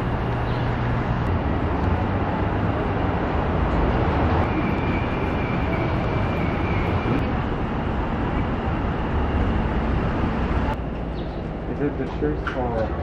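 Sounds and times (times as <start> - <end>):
rumble of passing traffic: 0.0 - 13.0.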